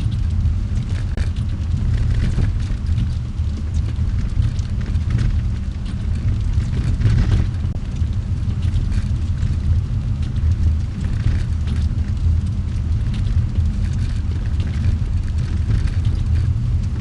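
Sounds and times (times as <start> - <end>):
car engine and tyre rumble: 0.0 - 17.0
light clicks and crackles: 0.0 - 17.0.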